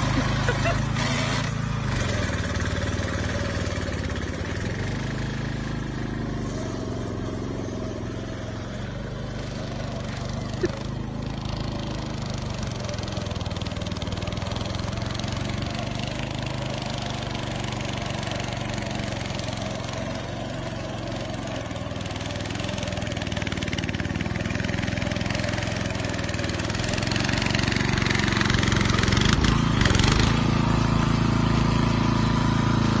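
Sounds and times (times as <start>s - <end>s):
lawnmower engine running: 0.0s - 33.0s.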